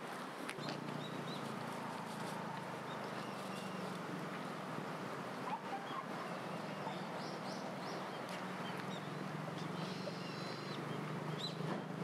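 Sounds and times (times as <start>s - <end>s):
low outdoor hum: 0.0s - 12.0s
small birds chirping: 0.6s - 4.7s, 5.8s - 12.0s.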